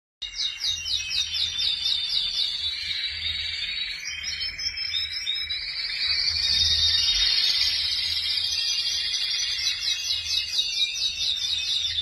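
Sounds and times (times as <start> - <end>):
canary singing trills: 0.2 - 12.0.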